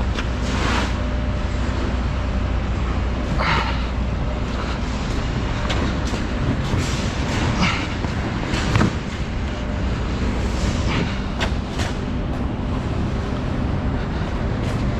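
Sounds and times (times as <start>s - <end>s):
truck engine idling: 0.0s - 14.9s.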